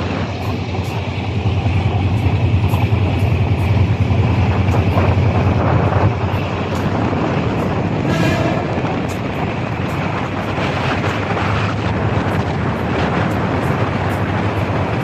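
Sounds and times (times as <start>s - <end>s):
train rumbling: 0.0s - 15.0s
wind noise: 0.0s - 15.0s.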